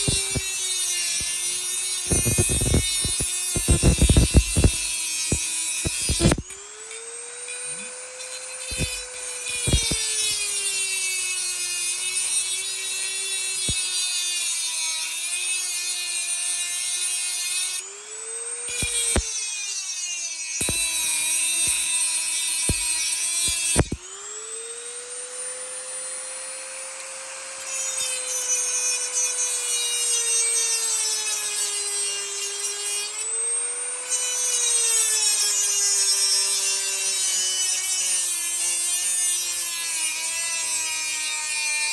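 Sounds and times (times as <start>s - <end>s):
rotary tool grinding metal: 0.0s - 41.9s.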